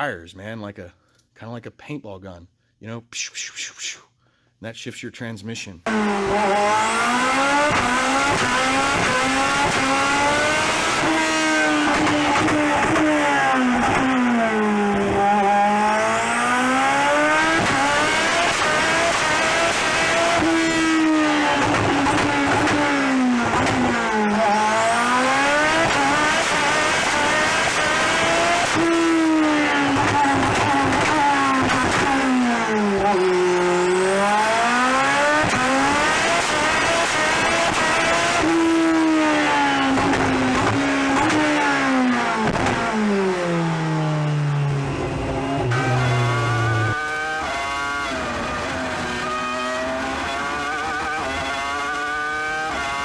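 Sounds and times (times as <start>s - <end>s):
race car engine revving: 5.9s - 53.0s.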